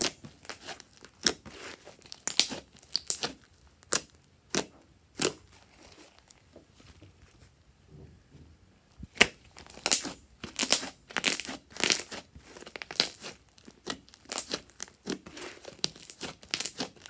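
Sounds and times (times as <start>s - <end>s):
slime squelching and crackling: 0.0s - 6.9s, 9.0s - 17.0s.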